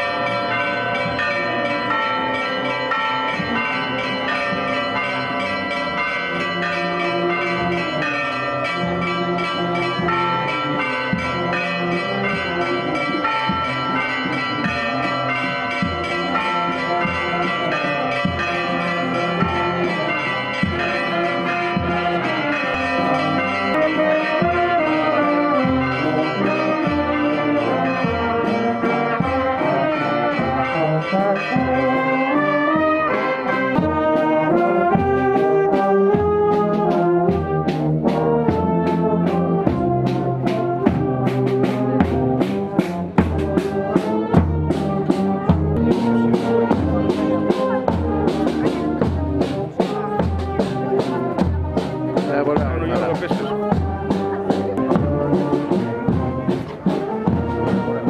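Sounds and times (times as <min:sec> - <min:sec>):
church bells ringing: 0:00.0 - 0:58.0
marching band brass playing: 0:00.0 - 0:58.0.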